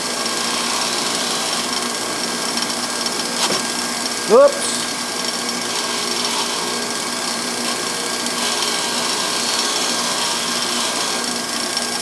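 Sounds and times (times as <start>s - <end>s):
bench grinder with wire wheel: 0.0s - 12.0s.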